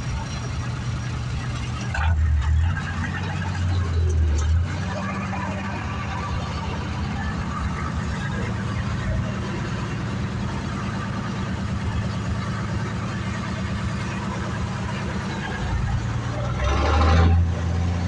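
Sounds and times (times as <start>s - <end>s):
truck engine chugging: 0.0s - 18.0s.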